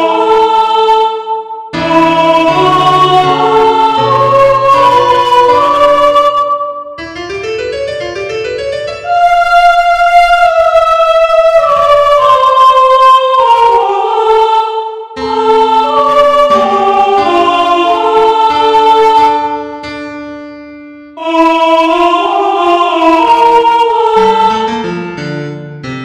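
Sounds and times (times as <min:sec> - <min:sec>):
slow chordal background music: 0:00.0 - 0:07.0, 0:11.9 - 0:25.8.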